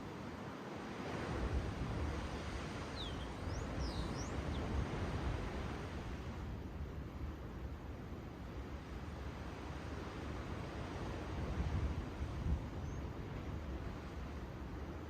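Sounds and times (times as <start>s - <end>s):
ocean waves and surf: 0.0s - 15.0s.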